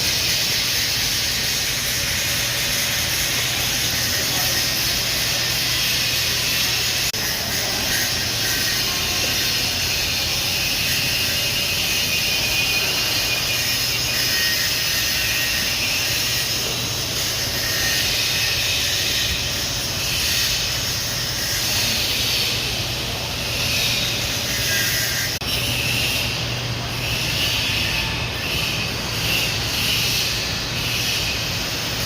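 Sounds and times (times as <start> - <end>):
welding arc sizzling: 0.0 - 32.0.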